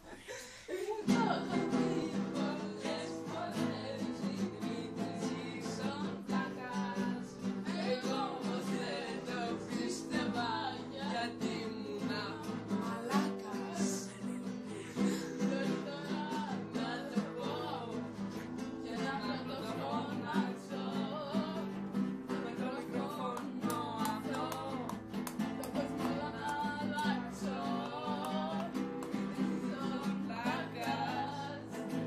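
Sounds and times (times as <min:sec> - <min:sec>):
young man singing: 0:00.9 - 0:32.0
classical guitar strummed chords: 0:01.1 - 0:32.0.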